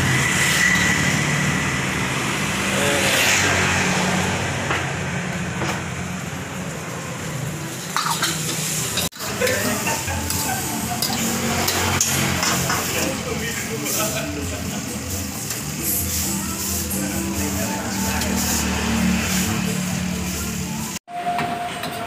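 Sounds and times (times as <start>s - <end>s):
roadside traffic hum: 0.0s - 22.0s.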